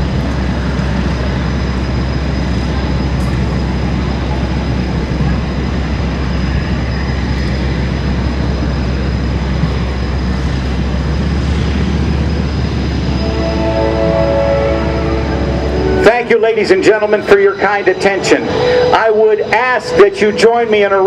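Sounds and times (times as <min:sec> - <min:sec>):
heavy low rumble: 0:00.0 - 0:21.0.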